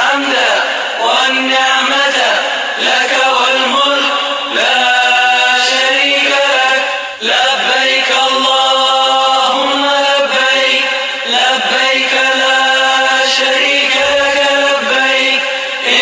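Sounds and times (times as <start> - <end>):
melodic chanting: 0.0 - 16.0.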